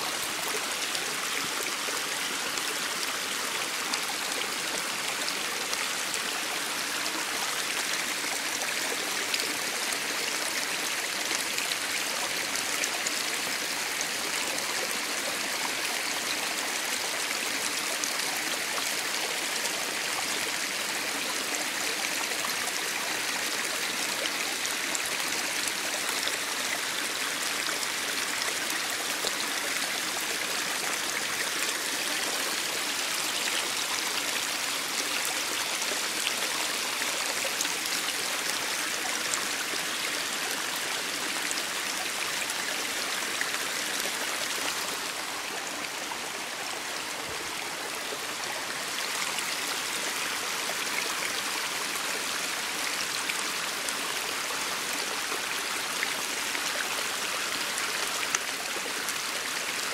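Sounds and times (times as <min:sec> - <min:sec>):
stream splashing over rocks: 0:00.0 - 0:59.9.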